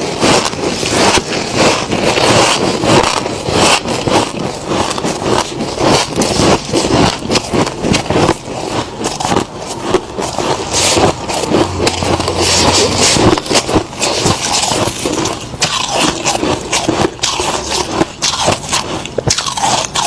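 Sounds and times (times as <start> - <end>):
crunching of freezer frost: 0.0 - 20.0.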